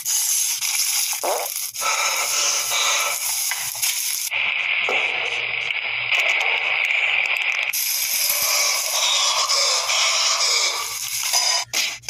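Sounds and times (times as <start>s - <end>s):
steady hissing noise: 0.0s - 11.6s.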